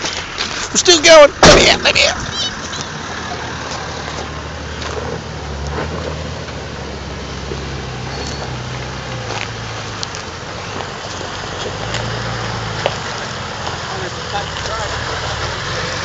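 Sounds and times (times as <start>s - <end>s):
truck engine at low revs: 0.0s - 16.0s
tyre noise: 0.0s - 16.0s.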